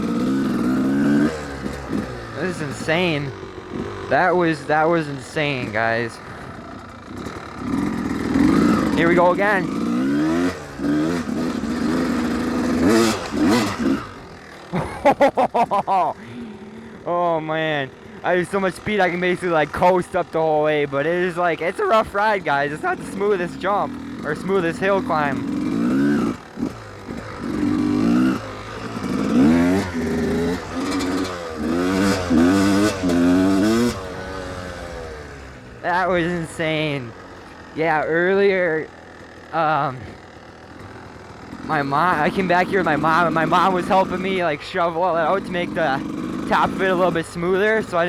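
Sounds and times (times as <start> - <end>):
two-stroke engine revving: 0.0 - 48.0.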